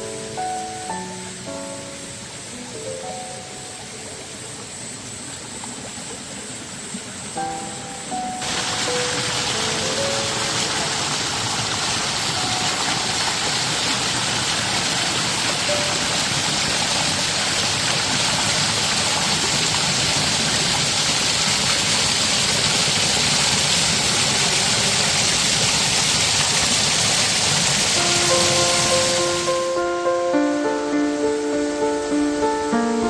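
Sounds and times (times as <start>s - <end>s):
stream rushing over rocks: 2.2s - 33.0s.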